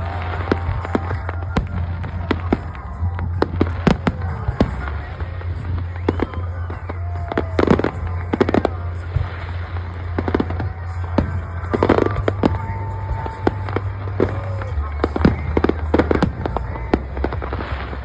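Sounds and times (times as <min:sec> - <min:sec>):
fireworks bangs and crackling: 0:00.0 - 0:18.0
fireworks whistling: 0:00.0 - 0:18.0
low rumble: 0:00.0 - 0:18.0.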